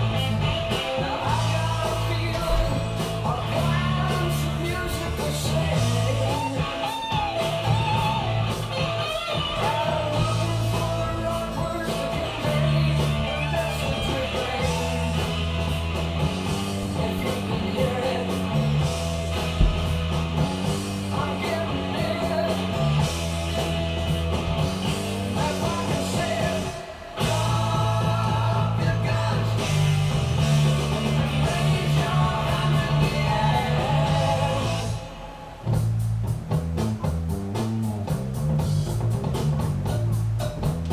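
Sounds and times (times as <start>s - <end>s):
rock song with singing: 0.0s - 40.9s.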